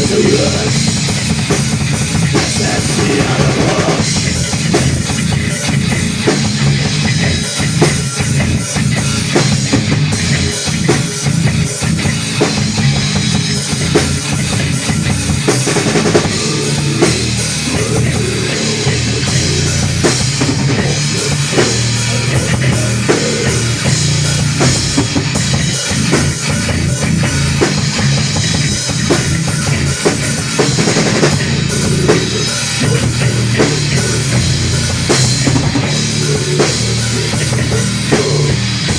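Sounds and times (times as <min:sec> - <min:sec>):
bass drum strokes: 0:00.0 - 0:38.9
electric guitars: 0:00.0 - 0:38.9
rock band playing live: 0:00.0 - 0:38.9.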